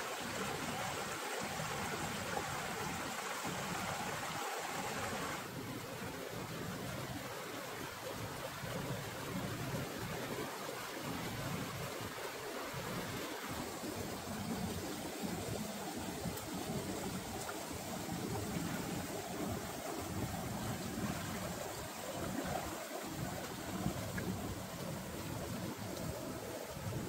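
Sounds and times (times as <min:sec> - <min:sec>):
stream flowing over stones: 0:00.0 - 0:27.0.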